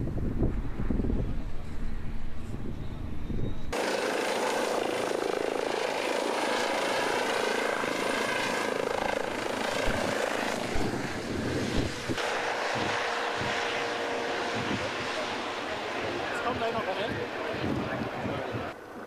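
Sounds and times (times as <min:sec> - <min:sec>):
helicopter lifting off: 0:03.0 - 0:18.8.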